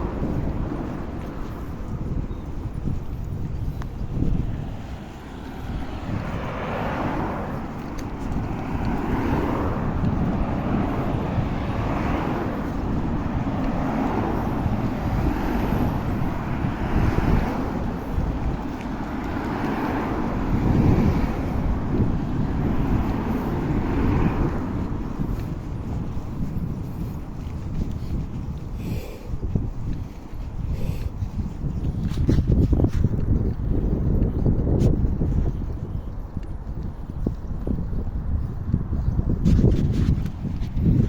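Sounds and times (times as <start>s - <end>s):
passing road traffic: 0.0s - 41.0s
wind rumbling on microphone: 0.0s - 41.0s.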